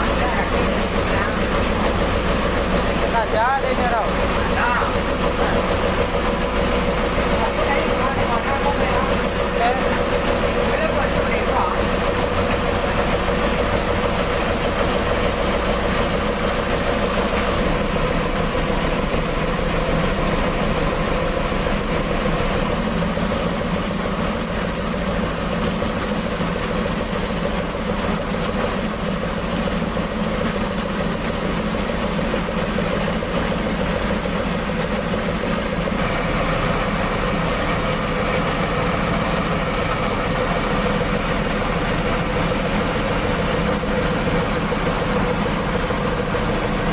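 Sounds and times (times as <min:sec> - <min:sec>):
diesel engine driving milling machine: 0:00.0 - 0:46.9.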